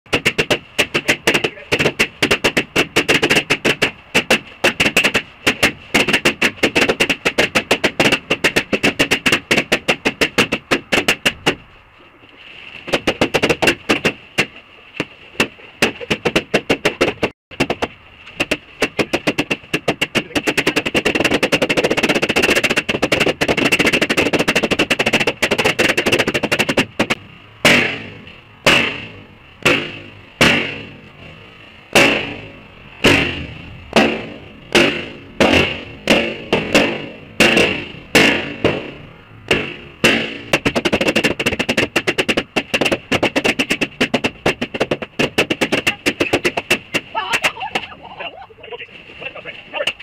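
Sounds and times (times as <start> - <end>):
balloons popping: 0.1 - 11.7, 12.8 - 31.0, 32.0 - 48.0.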